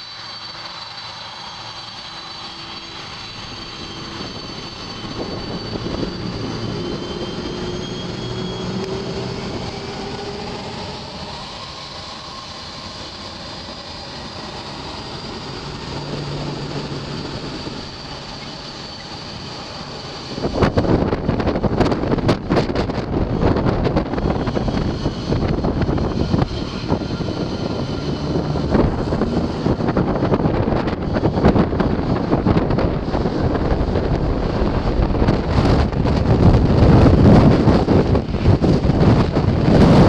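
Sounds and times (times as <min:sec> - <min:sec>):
jet engines whining: 0:00.0 - 0:40.0
wind gusts on microphone: 0:02.2 - 0:40.0.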